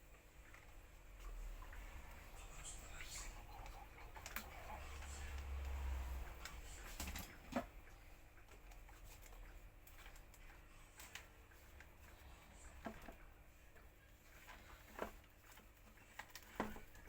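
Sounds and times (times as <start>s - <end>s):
light clicks and taps: 0.4s - 17.0s.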